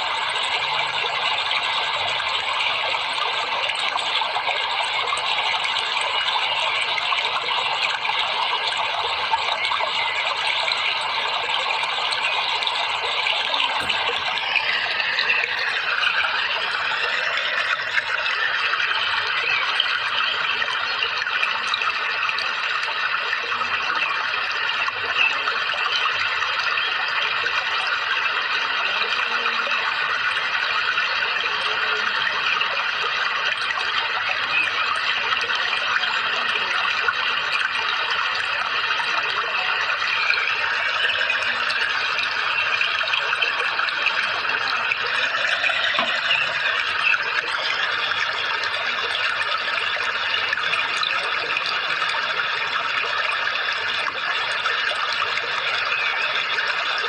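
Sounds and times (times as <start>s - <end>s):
water running and trickling: 0.0s - 57.0s.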